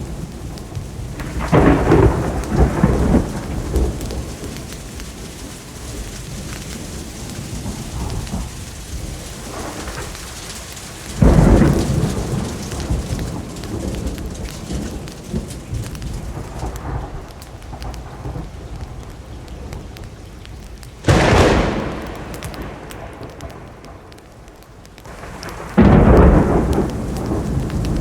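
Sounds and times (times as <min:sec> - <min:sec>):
steady rain: 0:00.0 - 0:28.0
thunder claps: 0:00.0 - 0:28.0.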